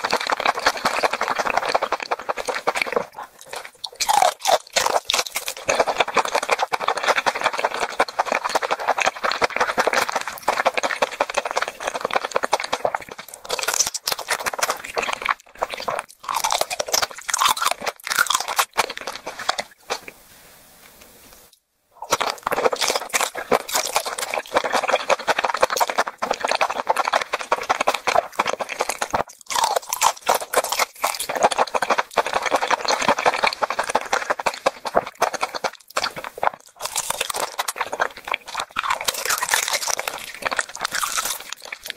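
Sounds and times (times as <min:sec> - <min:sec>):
crab shell crunching in mouth: 0:00.0 - 0:20.2, 0:22.0 - 0:41.9
wet sucking and chewing: 0:00.0 - 0:20.3, 0:22.0 - 0:41.9.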